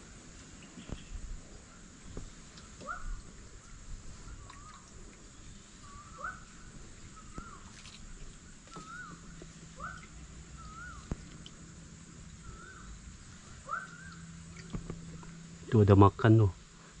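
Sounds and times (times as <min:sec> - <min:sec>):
bird calling: 0:00.0 - 0:15.9
steady high hiss: 0:00.0 - 0:17.0.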